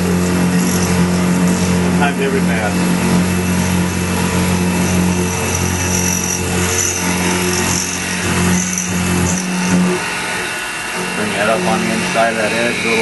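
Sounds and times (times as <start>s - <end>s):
high cutting whine: 0.0s - 13.0s
milling machine motor hum: 0.0s - 13.0s.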